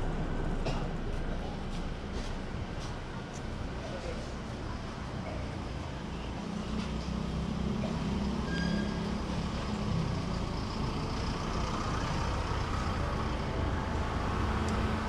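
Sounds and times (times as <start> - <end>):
large vehicle engine running: 0.0 - 8.4, 9.1 - 15.0
traffic hum: 0.0 - 15.0.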